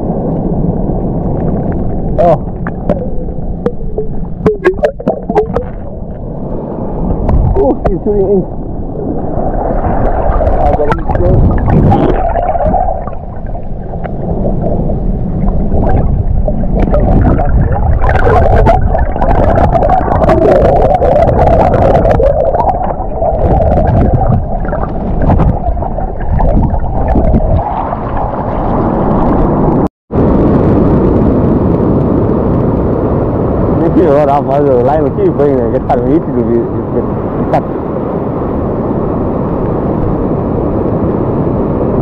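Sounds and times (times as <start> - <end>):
churning sea: 0.0 - 42.0
wind on microphone: 0.0 - 42.0.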